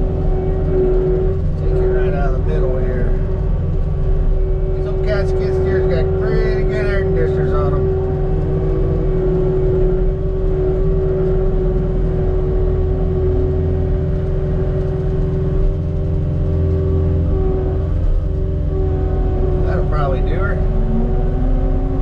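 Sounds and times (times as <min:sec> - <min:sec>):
diesel engine rumble: 0:00.0 - 0:22.0
steady whine: 0:00.0 - 0:22.0.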